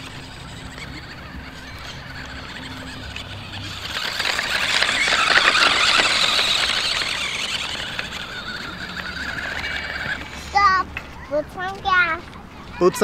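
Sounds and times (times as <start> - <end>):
toy electric motor whirring: 0.0 - 10.7.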